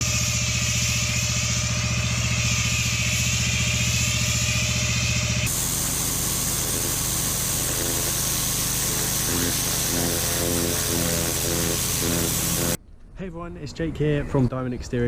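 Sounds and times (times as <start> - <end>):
pressure washer engine running: 0.0 - 12.8
water jet hissing: 0.0 - 12.8.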